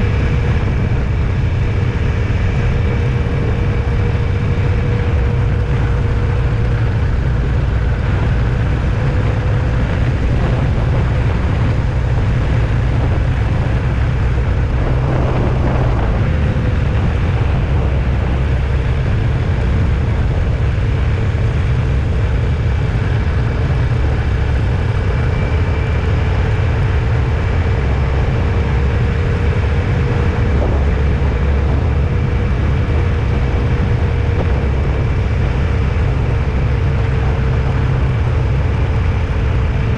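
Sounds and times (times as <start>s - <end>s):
car engine and tyre rumble: 0.0s - 39.9s
faint steady whine: 0.0s - 39.9s.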